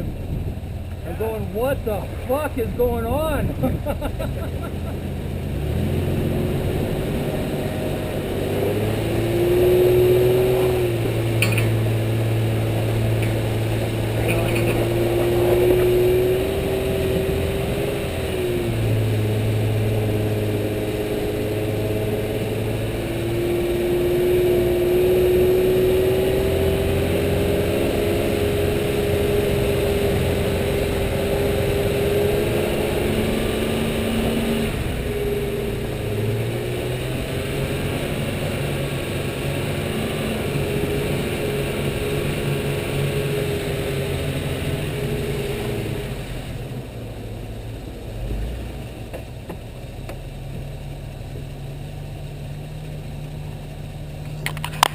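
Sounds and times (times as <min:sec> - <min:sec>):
vehicle engine running under load: 0:00.0 - 0:54.9.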